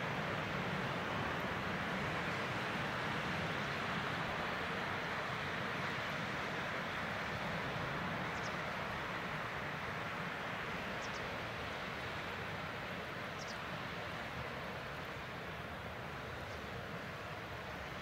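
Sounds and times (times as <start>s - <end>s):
light wind: 0.0s - 18.0s
sea surf washing on shore: 0.0s - 18.0s.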